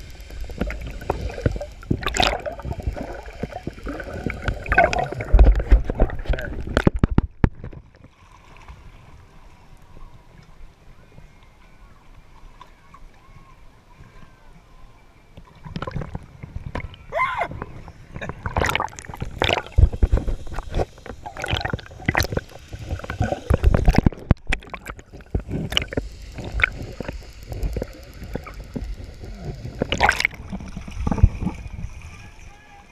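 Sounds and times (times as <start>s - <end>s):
water splashing and sloshing: 0.0s - 10.6s, 15.3s - 32.9s.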